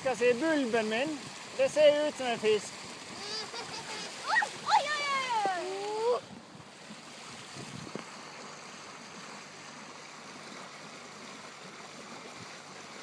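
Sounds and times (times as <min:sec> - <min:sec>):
water rushing along boat hull: 0:00.0 - 0:13.0.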